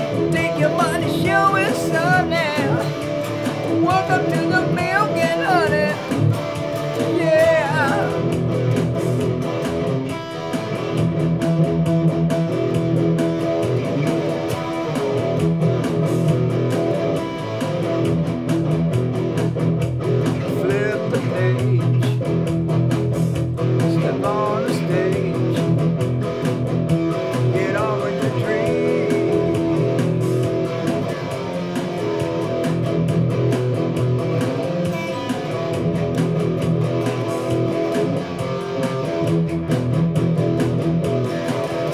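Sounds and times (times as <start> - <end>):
drum machine beat: 0.0 - 41.9
electric guitar: 0.0 - 41.9.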